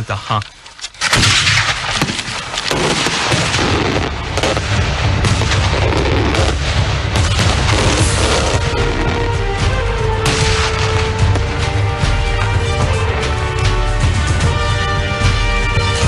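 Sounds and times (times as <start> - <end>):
fireworks bangs and crackles: 1.2 - 14.6.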